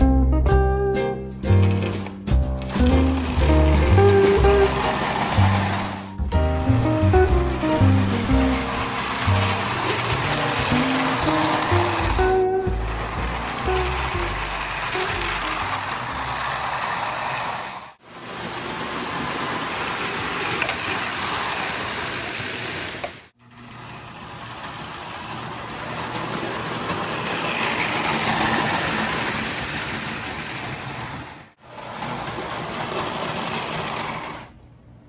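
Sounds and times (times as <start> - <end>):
toy train motor and gears running: 1.5 - 34.6.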